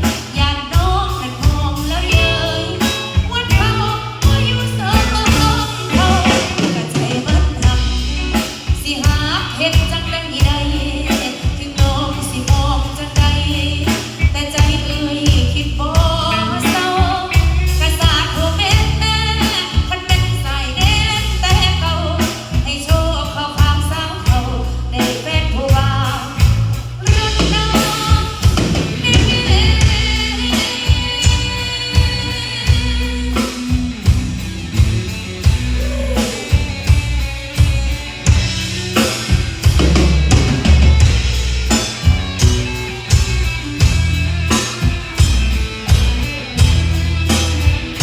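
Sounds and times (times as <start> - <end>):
person singing: 0.0 - 33.9, 35.4 - 41.2
live band playing: 0.0 - 48.0.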